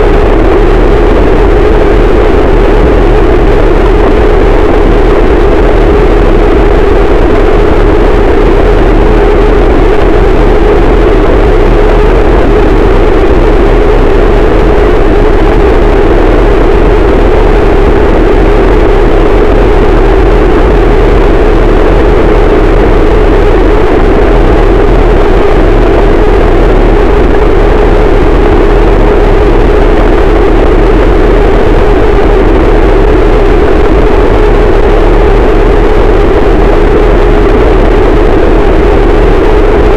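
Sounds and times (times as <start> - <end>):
distorted noise wall: 0.0 - 39.9.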